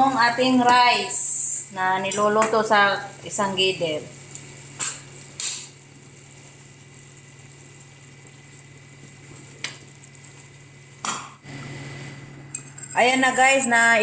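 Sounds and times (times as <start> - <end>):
low kitchen hum: 0.0 - 14.0.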